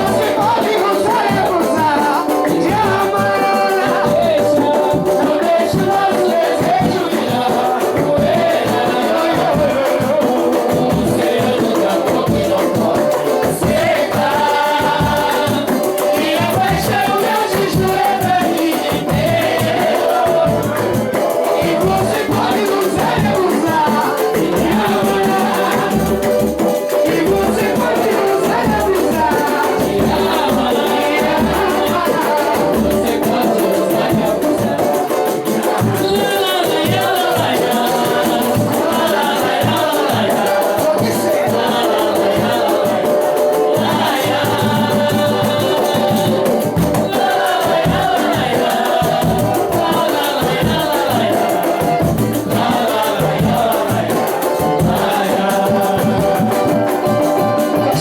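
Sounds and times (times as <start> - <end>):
shaker rattling: 0.0 - 58.0
voices singing: 0.0 - 58.0.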